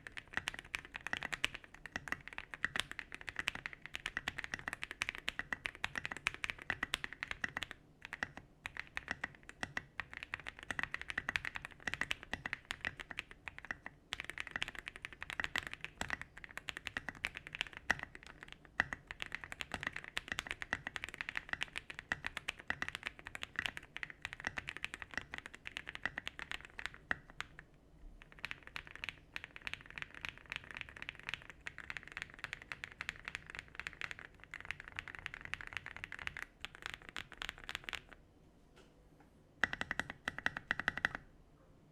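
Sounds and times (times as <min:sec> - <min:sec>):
mechanical keyboard typing: 0:00.0 - 0:38.2, 0:39.6 - 0:41.3.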